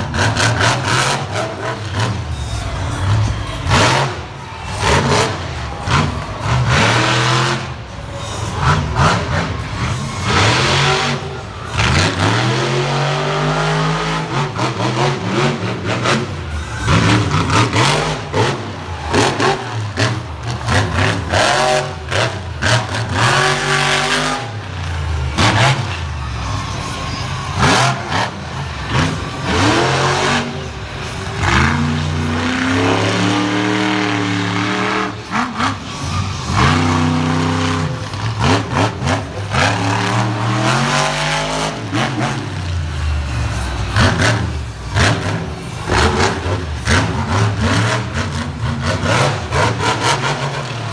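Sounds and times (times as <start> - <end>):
monster truck engine revving: 0.0 - 50.9.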